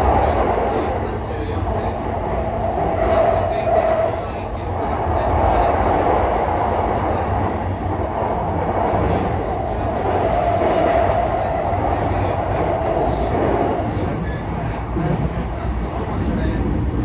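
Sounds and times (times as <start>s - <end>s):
low rumble of train car: 0.0s - 17.0s.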